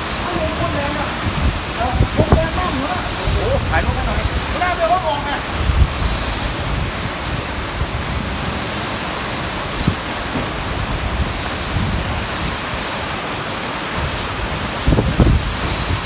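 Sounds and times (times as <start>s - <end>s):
heavy rain downpour: 0.0s - 16.0s
wind buffeting microphone: 0.0s - 16.0s.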